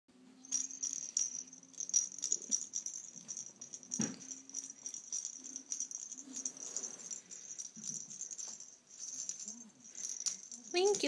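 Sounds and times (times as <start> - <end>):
jingle bell jingling: 0.4 - 11.0.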